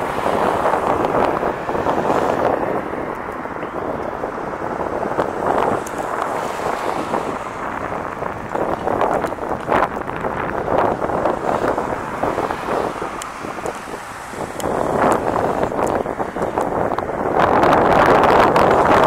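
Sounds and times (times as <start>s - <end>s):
highway traffic rushing past: 0.0s - 19.0s
wind buffeting microphone: 0.0s - 19.0s.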